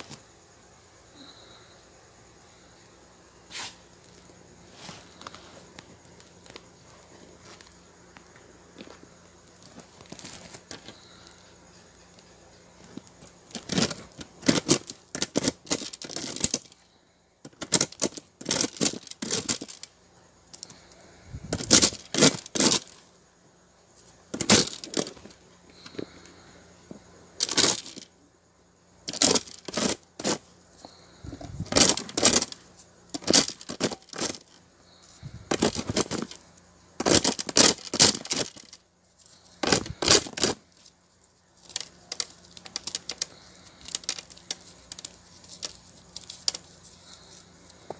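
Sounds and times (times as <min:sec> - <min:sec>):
corn kernels crackling and rattling: 0:03.6 - 0:23.1, 0:24.0 - 0:28.2, 0:28.9 - 0:47.9.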